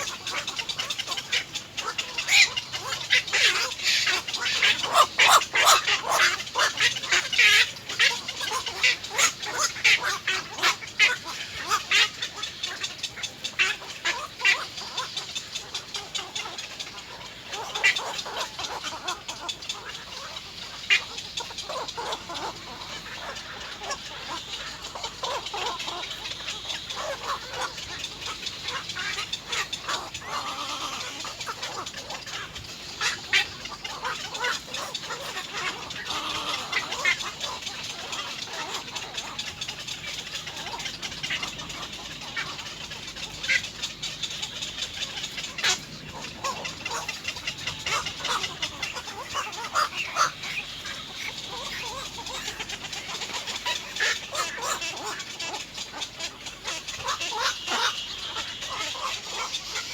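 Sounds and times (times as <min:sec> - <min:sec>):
birds clucking and chattering: 0:00.0 - 0:59.9.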